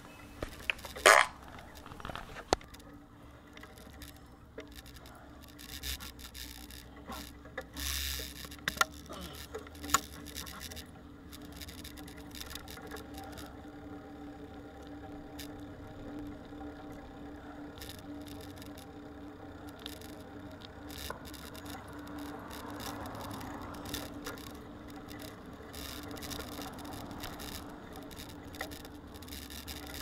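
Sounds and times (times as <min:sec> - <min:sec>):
bicycle clicks and knocks: 0:00.0 - 0:30.0
bicycle rubbing and scraping: 0:00.0 - 0:30.0.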